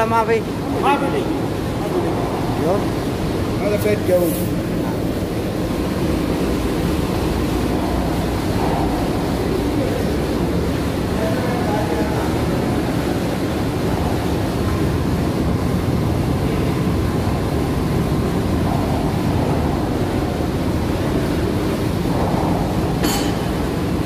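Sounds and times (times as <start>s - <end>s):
plant machinery rumbling: 0.0s - 24.0s.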